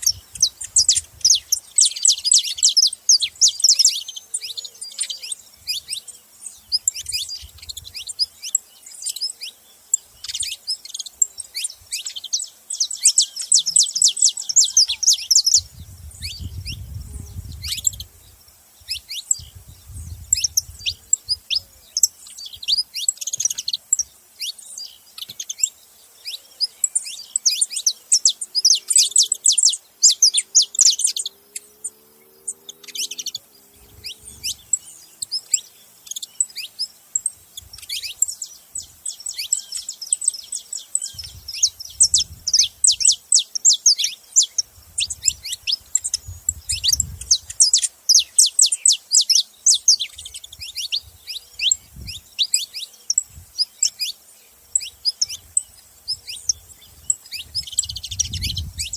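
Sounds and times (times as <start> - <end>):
finch chirping: 0.0 - 58.9.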